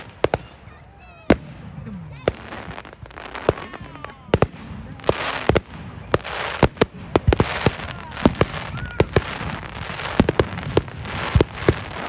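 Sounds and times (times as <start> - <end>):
fireworks bangs: 0.0 - 12.0
fireworks hissing crackle: 0.0 - 12.0.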